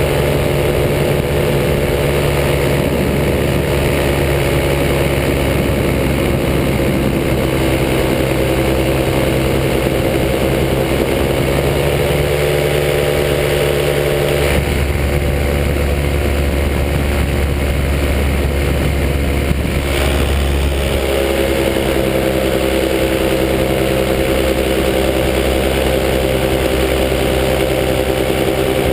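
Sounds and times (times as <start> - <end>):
paramotor engine running: 0.0 - 28.9.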